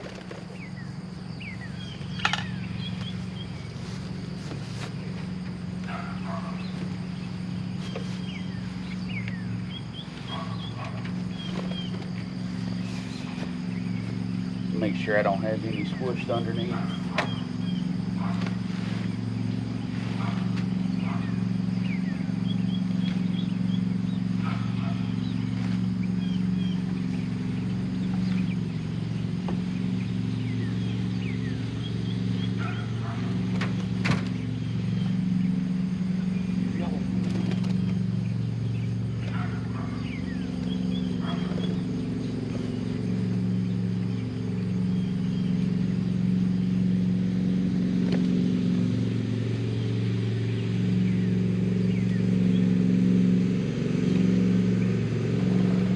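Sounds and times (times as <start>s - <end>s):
low engine hum: 0.0s - 55.9s
lower bird calls: 0.0s - 55.9s.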